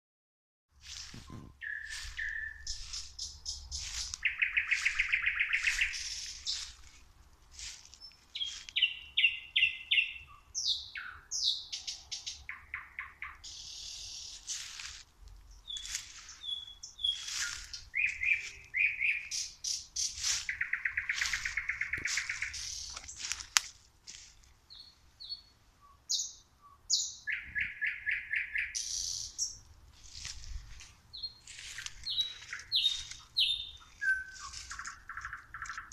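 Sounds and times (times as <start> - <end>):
nightingale singing: 0.8 - 7.0, 7.6 - 23.7, 24.6 - 35.9.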